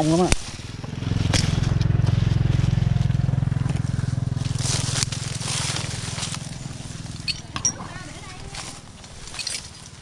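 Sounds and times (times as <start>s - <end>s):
rustle of leaves and branches: 0.0s - 10.0s
chainsaw running at low revs: 0.6s - 9.9s.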